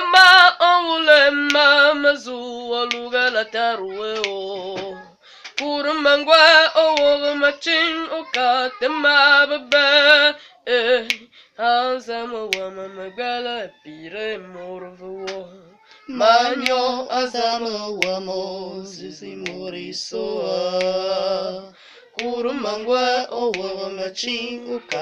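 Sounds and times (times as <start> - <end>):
boy singing solo: 0.0 - 25.0.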